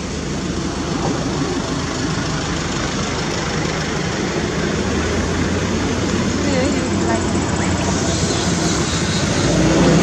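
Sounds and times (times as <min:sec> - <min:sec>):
low engine hum: 0:00.0 - 0:10.0
street traffic noise: 0:00.0 - 0:10.0.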